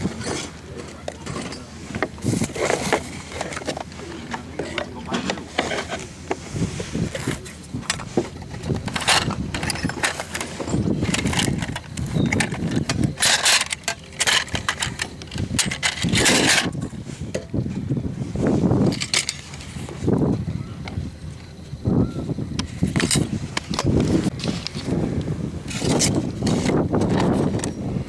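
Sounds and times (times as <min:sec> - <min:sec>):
scraping rustles: 0:00.0 - 0:20.4, 0:22.6 - 0:27.8.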